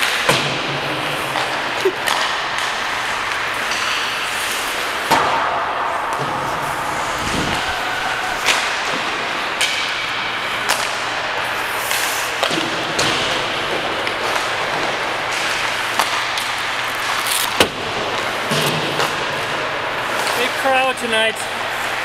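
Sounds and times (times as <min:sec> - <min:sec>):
pucks hitting sticks and boards: 0:00.0 - 0:22.0
skating and arena noise: 0:00.0 - 0:22.0.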